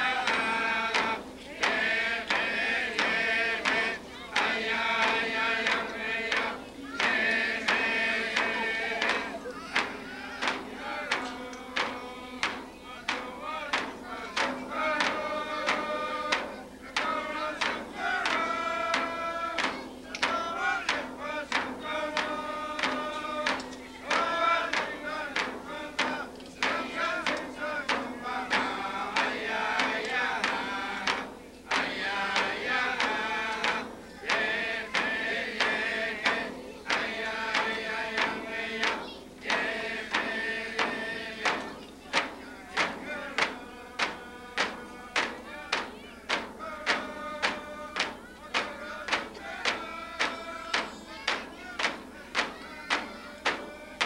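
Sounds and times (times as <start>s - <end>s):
frame drums beating: 0.0s - 54.0s
group of voices chanting: 0.0s - 54.0s.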